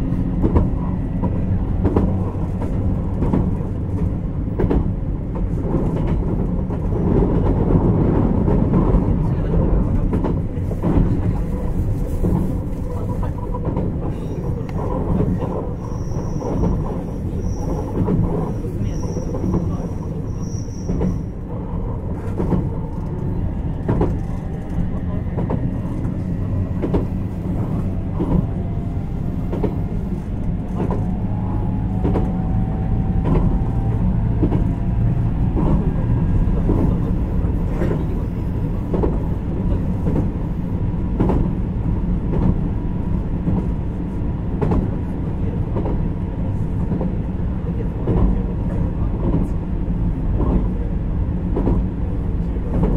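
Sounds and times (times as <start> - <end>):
rail joint clicks: 0.0 - 52.9
train wheels rumbling on rail: 0.0 - 52.9.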